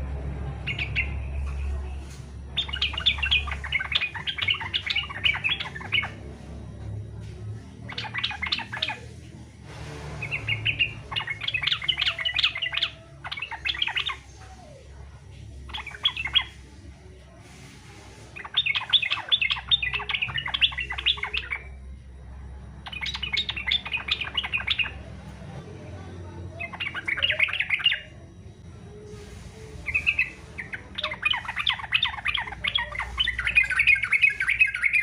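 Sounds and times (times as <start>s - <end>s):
bird singing chattering song: 0.6s - 35.0s.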